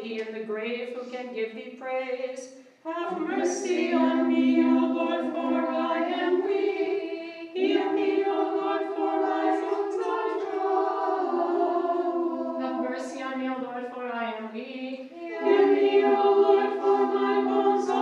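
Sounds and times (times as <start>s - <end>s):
choir chanting a hymn: 2.9s - 18.0s.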